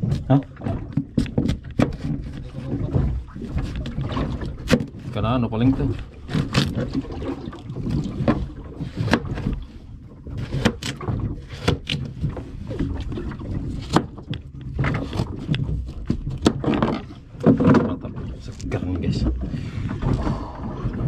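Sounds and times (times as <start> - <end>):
boat engine low rumble: 0.0 - 21.0.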